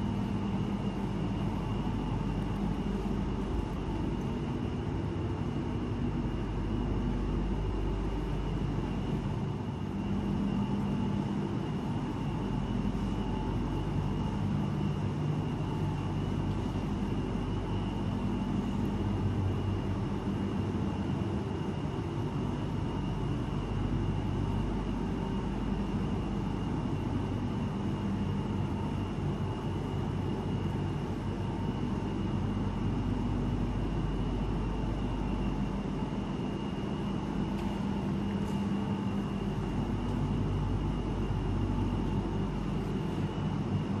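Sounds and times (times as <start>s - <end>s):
ventilation fans droning: 0.0s - 44.0s.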